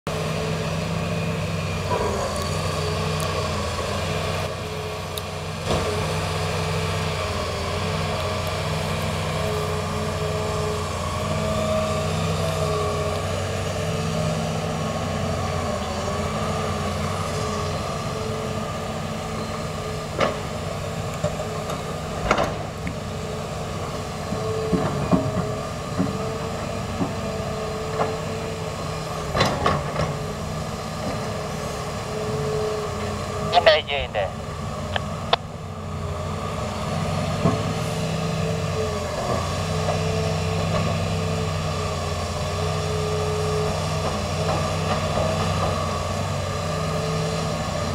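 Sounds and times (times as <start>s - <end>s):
excavator diesel engine and hydraulics: 0.1s - 47.9s.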